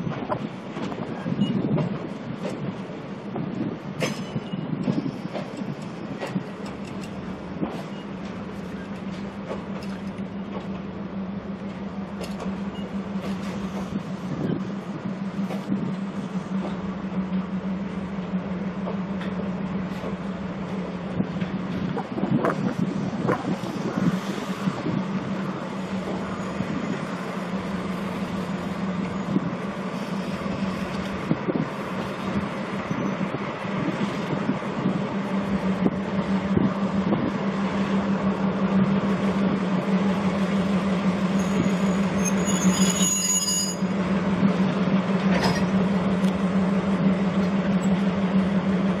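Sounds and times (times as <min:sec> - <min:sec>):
diesel engine hum: 0:00.0 - 0:42.8, 0:43.7 - 0:49.0
train wheels rolling: 0:00.0 - 0:49.0.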